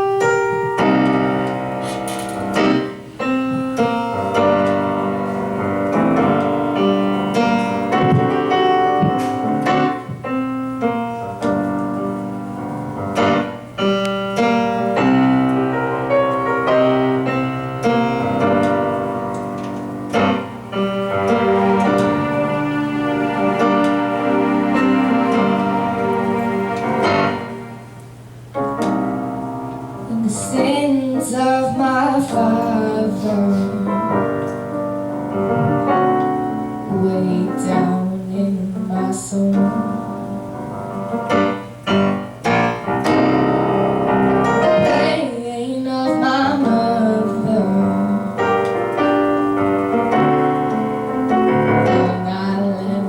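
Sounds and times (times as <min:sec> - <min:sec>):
piano playing held chords: 0:00.0 - 0:53.0.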